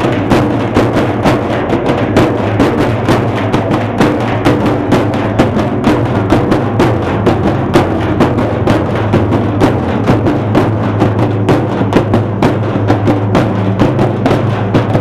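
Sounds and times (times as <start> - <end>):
large drums beaten with sticks: 0.0 - 15.0.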